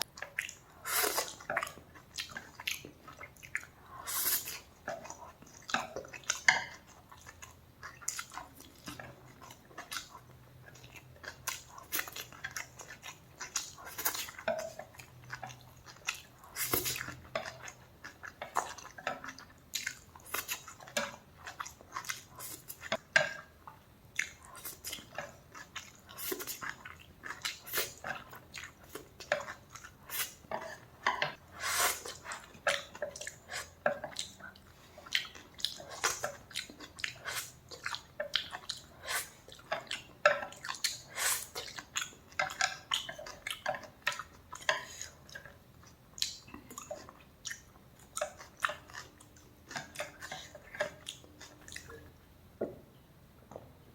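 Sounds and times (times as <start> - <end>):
person chewing food: 0.0 - 52.2.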